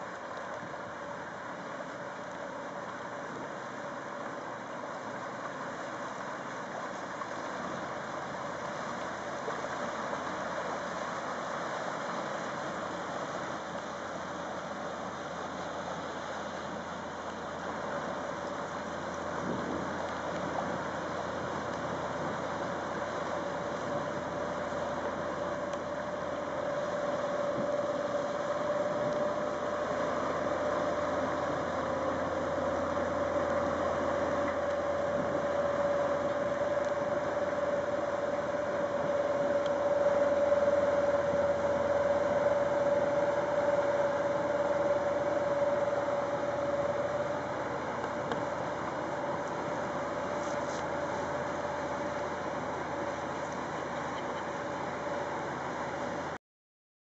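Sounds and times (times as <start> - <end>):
water churning along hull: 0.0 - 56.4
barge diesel engine running: 6.9 - 56.4.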